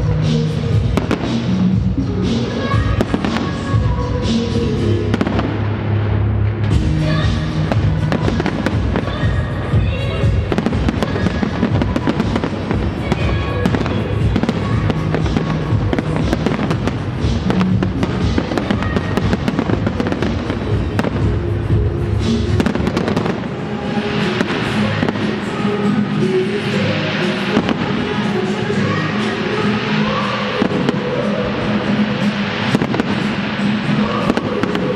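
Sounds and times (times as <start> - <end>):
music playing: 0.0 - 34.9
fireworks bangs and crackling: 0.3 - 4.4, 5.1 - 5.7, 6.6 - 34.9.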